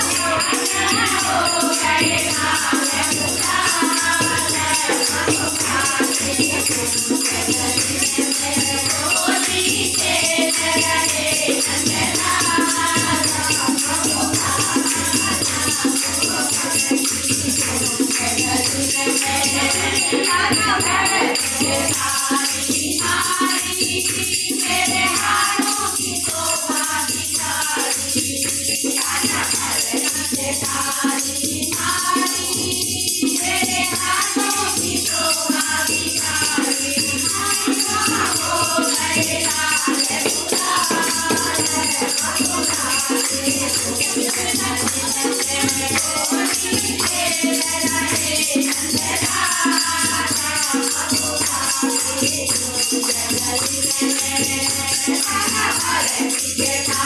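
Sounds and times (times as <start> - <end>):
group singing devotional song: 0.0 - 57.0
percussion beat: 0.0 - 57.0.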